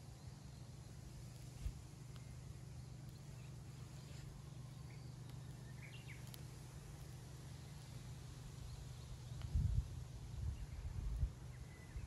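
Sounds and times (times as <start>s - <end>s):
faint bird chirps: 0.0s - 12.0s
steady low hum: 0.0s - 12.0s.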